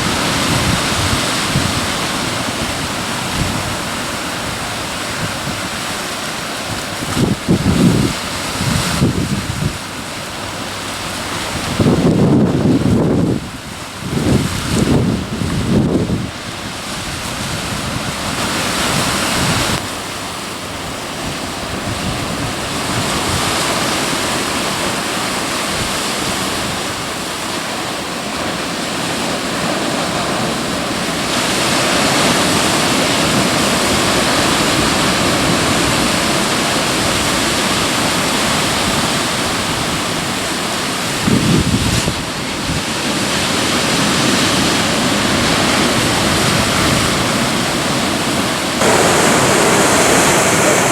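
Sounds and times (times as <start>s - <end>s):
surf breaking on rocks: 0.0s - 50.9s.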